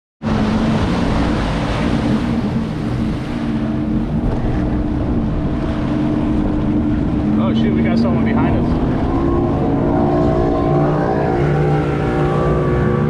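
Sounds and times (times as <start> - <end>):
rushing water: 0.2 - 13.0
watercraft engine running: 0.2 - 13.0
wind buffeting microphone: 0.2 - 13.0.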